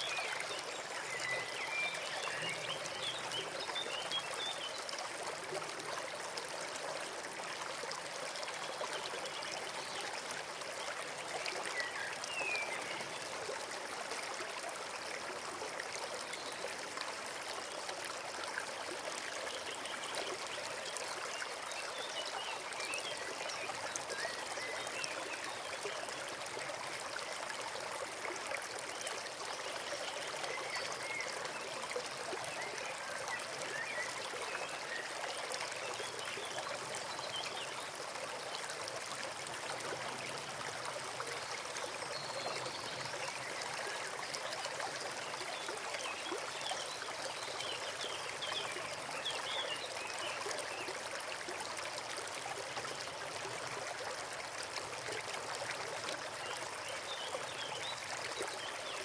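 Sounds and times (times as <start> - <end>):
brook flowing and trickling: 0.0 - 59.0.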